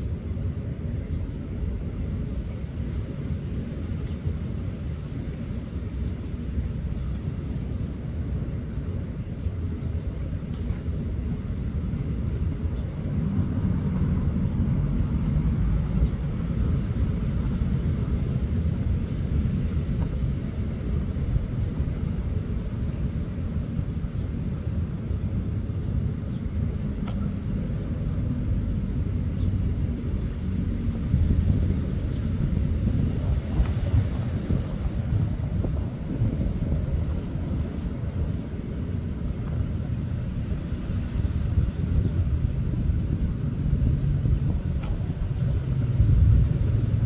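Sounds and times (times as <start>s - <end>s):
low outdoor rumble: 0.0s - 47.0s.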